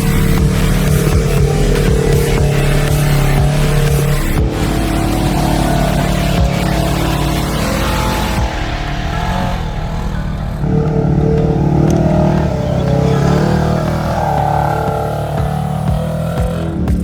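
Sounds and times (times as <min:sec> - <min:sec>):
utv engine revving: 0:00.0 - 0:17.0.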